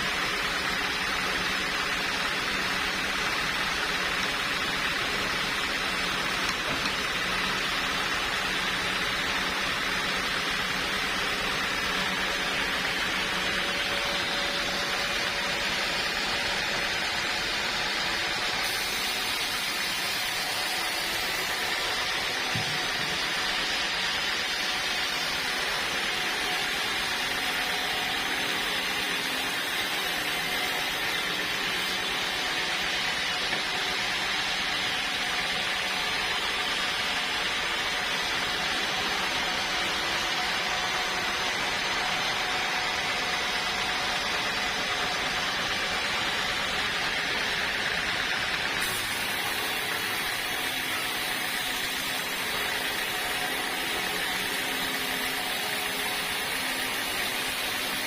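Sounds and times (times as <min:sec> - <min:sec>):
sawmill saw running: 0:00.0 - 0:58.0.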